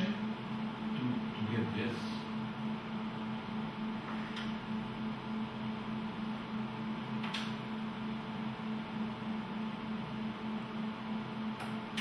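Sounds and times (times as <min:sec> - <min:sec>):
machine electrical hum: 0:00.0 - 0:12.0.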